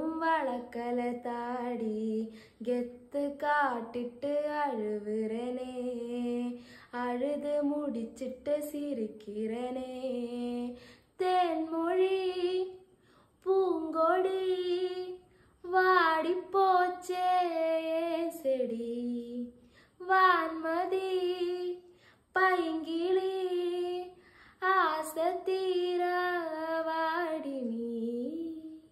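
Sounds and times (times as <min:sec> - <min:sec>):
woman singing unaccompanied: 0:00.0 - 0:12.8, 0:13.4 - 0:28.9.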